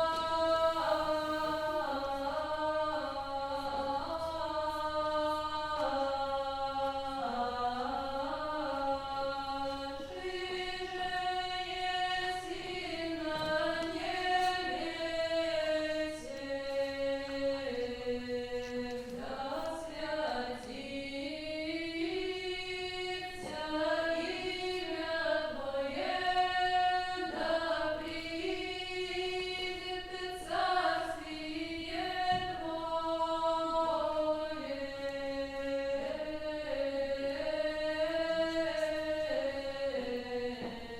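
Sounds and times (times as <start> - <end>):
vocal ensemble chanting: 0.0 - 40.9.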